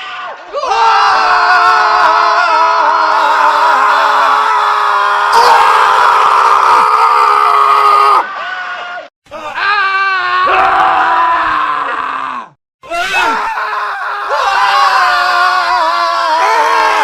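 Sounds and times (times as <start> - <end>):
men screaming: 0.0 - 17.0.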